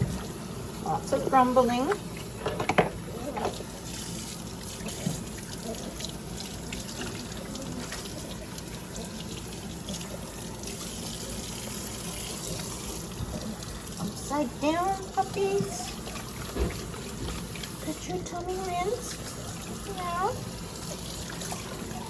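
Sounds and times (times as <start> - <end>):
tap water running into sink: 0.0 - 22.0
faint water splashes: 3.1 - 22.0.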